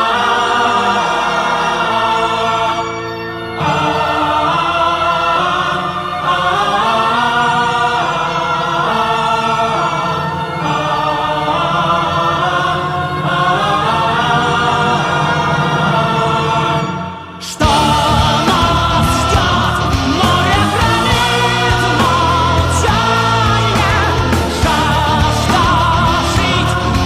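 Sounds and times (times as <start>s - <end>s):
choir singing sustained lines: 0.0s - 27.0s.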